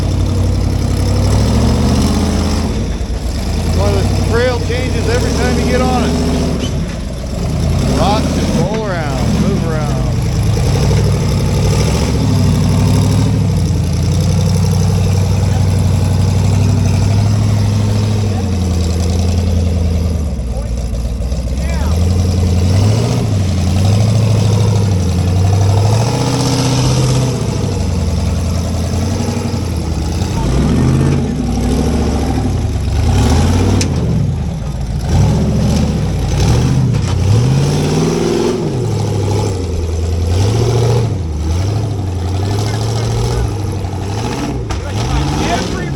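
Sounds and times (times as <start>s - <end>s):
engine running at low revs: 0.0s - 45.9s.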